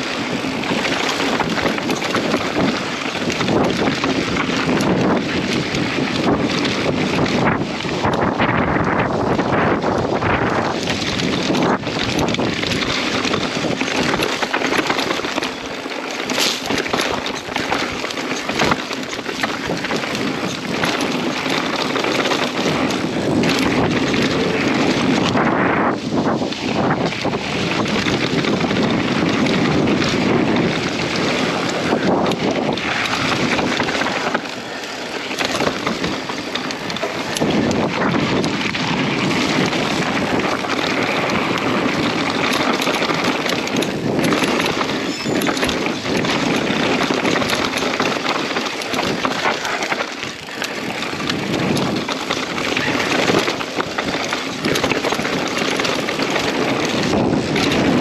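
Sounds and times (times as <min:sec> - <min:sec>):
bike tyre noise: 0:00.0 - 0:58.0
wind noise on microphone: 0:00.0 - 0:58.0
bike knocking over bumps: 0:09.5 - 0:25.8, 0:27.8 - 0:58.0.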